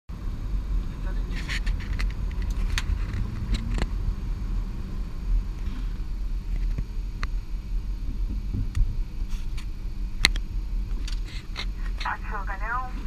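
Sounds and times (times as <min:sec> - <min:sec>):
aircraft cockpit low rumble: 0:00.1 - 0:13.0.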